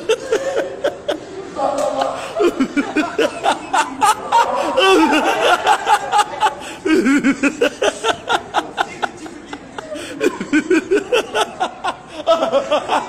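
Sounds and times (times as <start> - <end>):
laughter in quick bursts: 0.0 - 13.0.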